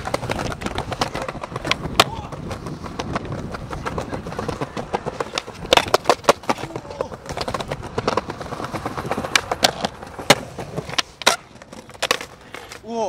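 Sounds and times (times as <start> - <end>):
skateboards clacking on ground: 0.0 - 13.0
skateboards rolling on pavement: 0.0 - 13.0.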